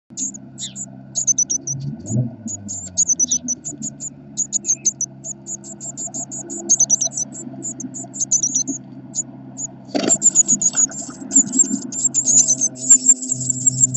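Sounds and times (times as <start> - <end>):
low steady hum: 0.1 - 13.9
nestlings peeping: 0.1 - 13.9.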